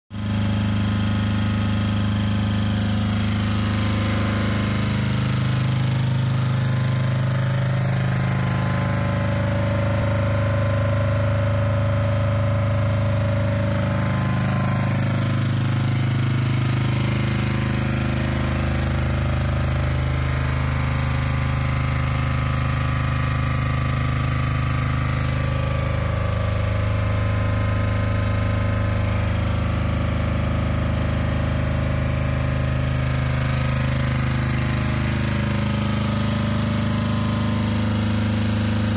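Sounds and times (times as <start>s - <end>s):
generator engine hum: 0.1s - 38.9s.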